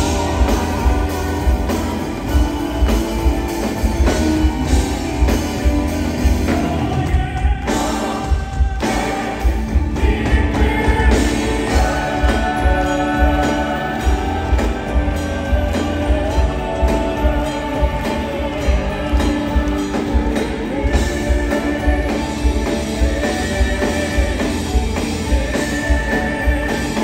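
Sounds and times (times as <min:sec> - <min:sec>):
band with drums and keyboards: 0:00.0 - 0:27.0
vocal group singing: 0:00.0 - 0:27.0.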